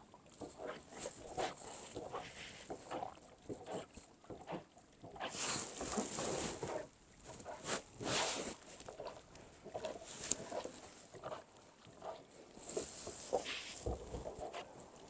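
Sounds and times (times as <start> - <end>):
paddle swishing in water: 0.0 - 15.0
water splashes and drips: 0.0 - 15.0.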